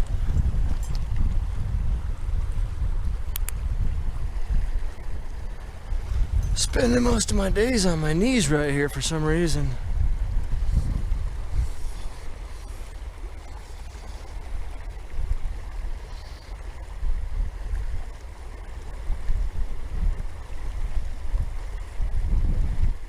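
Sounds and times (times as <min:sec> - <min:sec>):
wind buffeting microphone: 0:00.0 - 0:23.0
river water rushing: 0:02.8 - 0:21.8.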